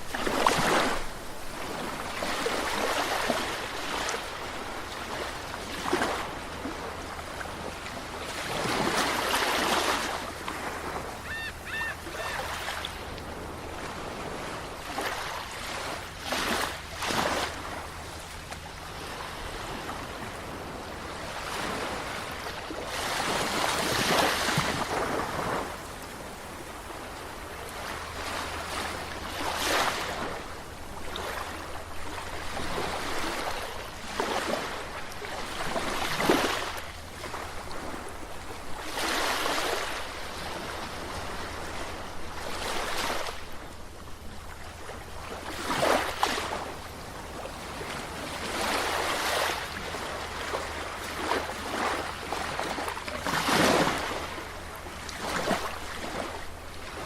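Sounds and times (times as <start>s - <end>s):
waves washing against shore: 0.0s - 57.0s.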